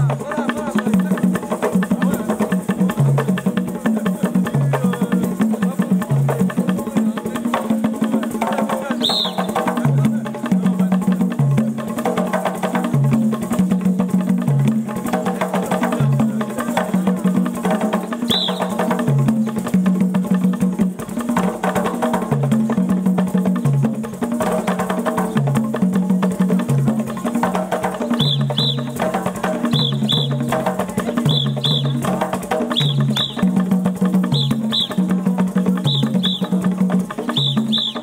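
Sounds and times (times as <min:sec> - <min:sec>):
hand drums playing fast rhythm: 0:00.0 - 0:38.0.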